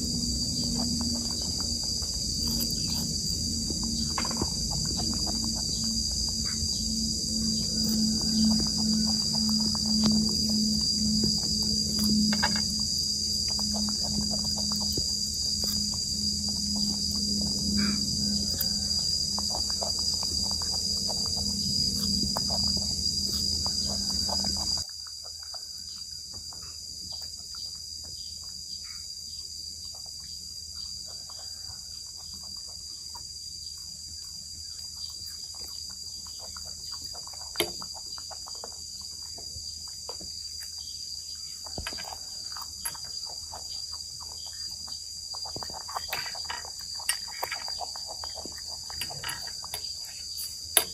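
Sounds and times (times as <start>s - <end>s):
insect chorus buzzing: 0.0s - 50.9s.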